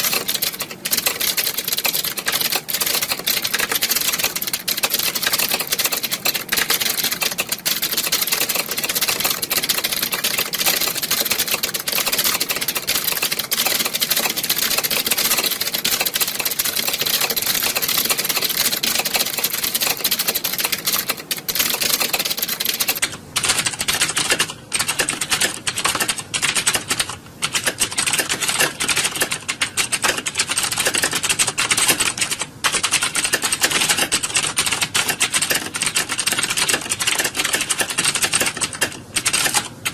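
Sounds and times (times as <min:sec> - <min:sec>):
keyboard typing clatter: 0:00.0 - 0:39.9.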